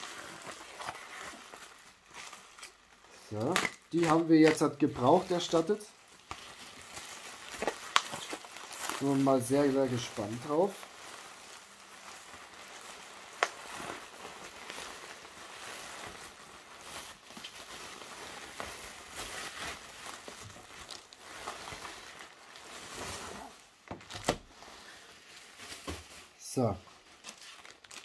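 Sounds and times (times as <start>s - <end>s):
bubble wrap rustling and crinkling: 0.0s - 28.0s.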